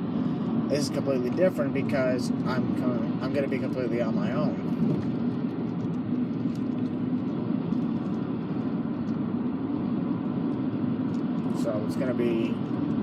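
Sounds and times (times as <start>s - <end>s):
car cabin engine and road noise: 0.0s - 13.0s.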